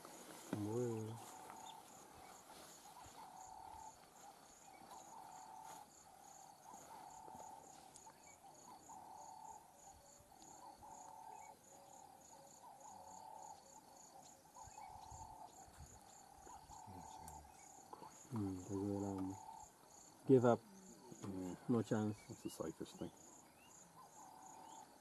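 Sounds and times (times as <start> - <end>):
insect buzzing call: 0.0 - 22.0
insect chirping: 0.0 - 25.0.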